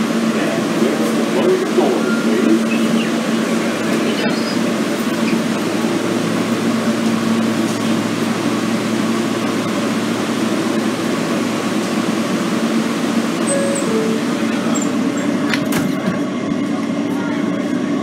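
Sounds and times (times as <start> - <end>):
subway car rushing noise: 0.0 - 18.0.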